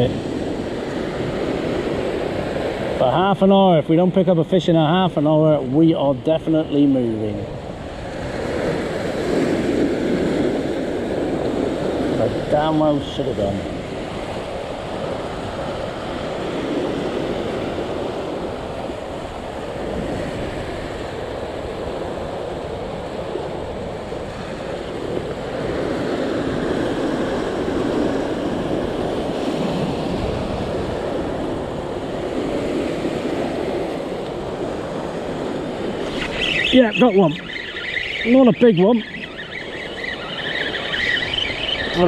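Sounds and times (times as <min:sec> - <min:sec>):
wind on microphone: 0:06.7 - 0:42.0.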